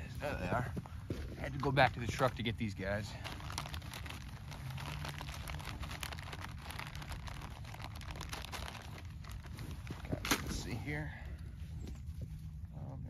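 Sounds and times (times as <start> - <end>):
low steady rumble: 0.0 - 13.0
plastic bag rustling: 0.2 - 11.0.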